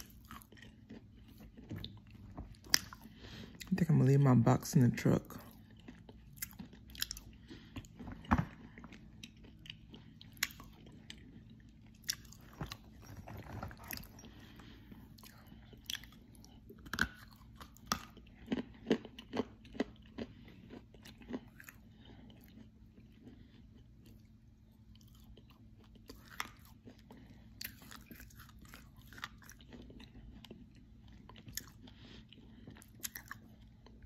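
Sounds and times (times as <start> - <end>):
person chewing crunchy chalk: 0.0 - 3.7, 5.4 - 12.9, 13.8 - 34.0.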